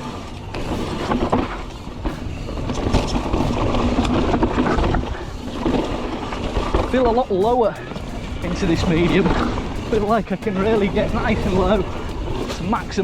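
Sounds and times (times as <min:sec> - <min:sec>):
bike rattling over bumps: 0:00.0 - 0:13.0
bike tyres rolling over dirt: 0:00.0 - 0:13.0.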